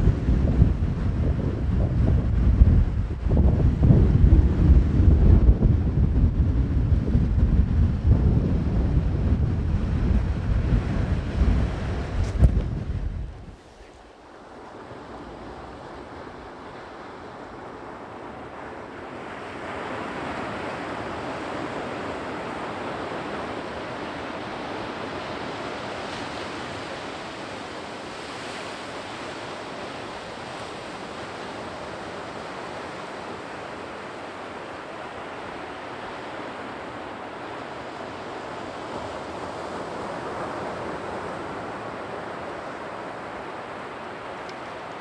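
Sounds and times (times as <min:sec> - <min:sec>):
sea waves breaking on shore: 0:08.2 - 0:45.0.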